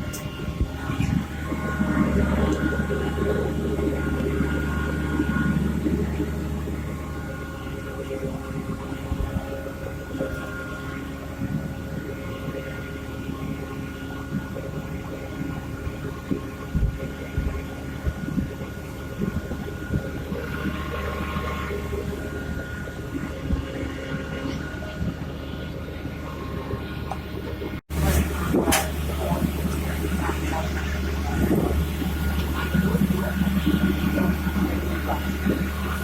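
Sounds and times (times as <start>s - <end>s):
harvest machinery engine hum: 0.0s - 36.0s.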